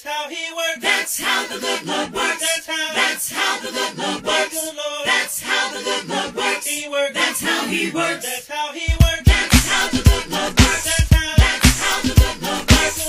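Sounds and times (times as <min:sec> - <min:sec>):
gospel choir singing: 0:00.0 - 0:13.0.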